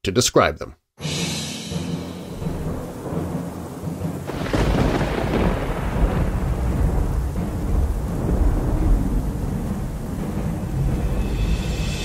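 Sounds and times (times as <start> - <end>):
thunder rumbling: 2.0 - 12.0
steady rain: 2.2 - 12.0.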